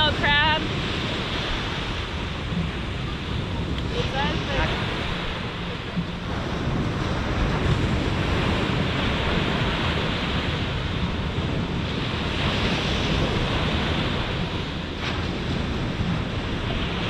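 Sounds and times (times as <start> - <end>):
ocean surf breaking on sand: 0.0 - 17.0
wind buffeting microphone: 0.0 - 17.0.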